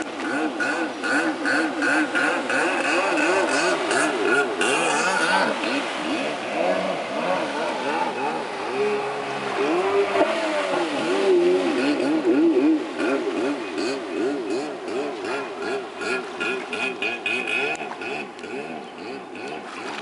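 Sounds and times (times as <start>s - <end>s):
jet ski engine revving: 0.0s - 20.0s.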